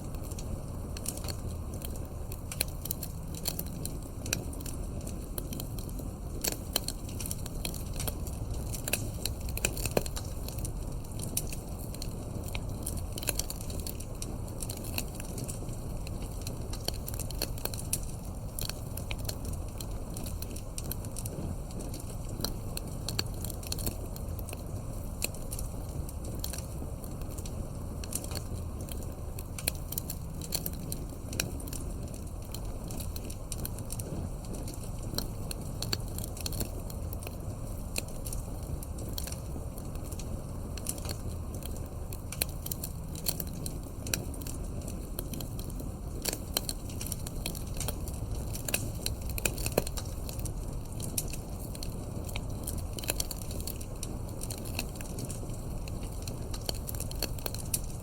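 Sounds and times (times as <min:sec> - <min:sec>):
burning logs popping and snapping: 0:00.0 - 0:58.0
low rumble of flames: 0:00.0 - 0:58.0.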